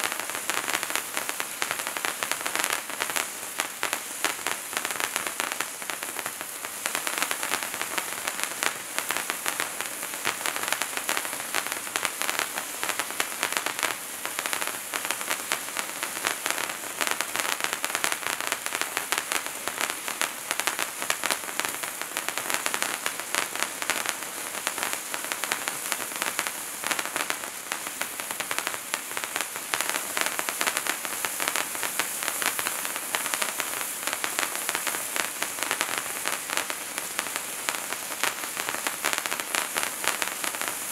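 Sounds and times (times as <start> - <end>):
fountain firework hissing sparks: 0.0 - 40.9.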